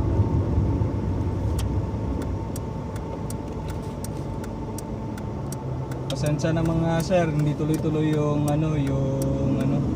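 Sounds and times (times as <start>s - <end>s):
car engine running: 0.0s - 9.9s
road noise: 0.0s - 9.9s.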